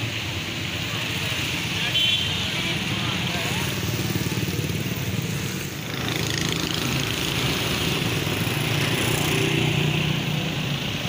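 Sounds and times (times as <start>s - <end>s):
traffic on wet road: 0.0s - 11.0s.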